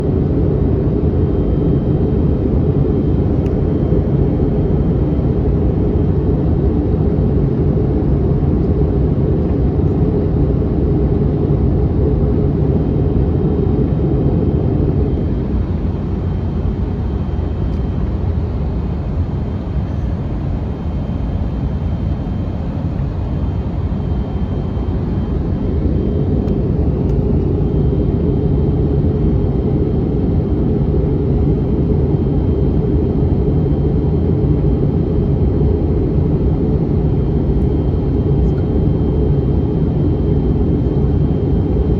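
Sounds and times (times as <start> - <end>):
airplane cabin rumble: 8.1 - 41.9.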